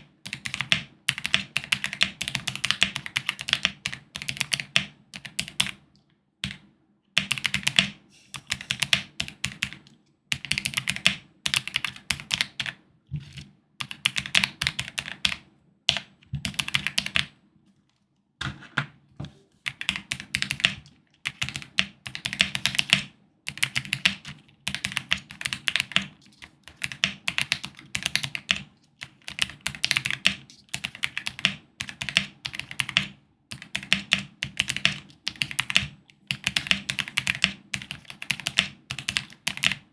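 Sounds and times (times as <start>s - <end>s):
mechanical keyboard typing: 0.2s - 5.8s, 7.2s - 17.4s, 19.7s - 39.9s.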